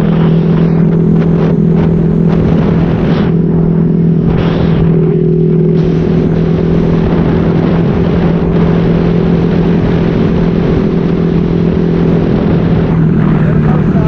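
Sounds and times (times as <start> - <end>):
motorcycle engine exhaust note: 0.0 - 14.0.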